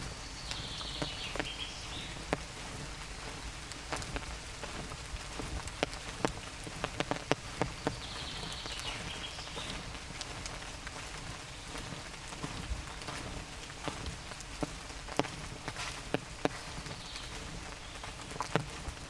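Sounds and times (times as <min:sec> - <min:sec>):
light rain hiss: 0:00.0 - 0:19.0
raindrop taps: 0:00.0 - 0:19.0.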